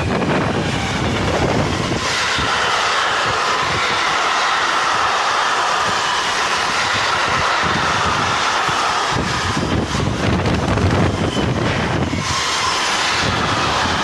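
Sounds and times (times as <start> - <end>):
steel wheels rushing on rail: 0.0 - 14.0.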